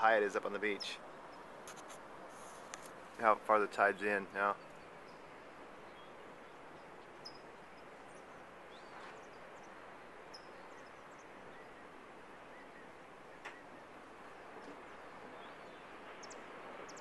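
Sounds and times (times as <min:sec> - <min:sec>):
distant surf breaking: 0:00.0 - 0:17.0
small birds chirping: 0:00.3 - 0:17.0.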